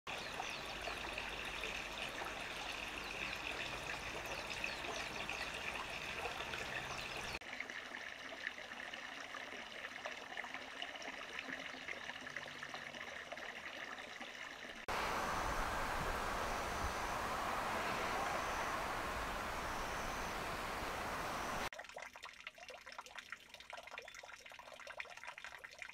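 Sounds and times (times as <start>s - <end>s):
water trickling and splashing: 0.1s - 25.9s.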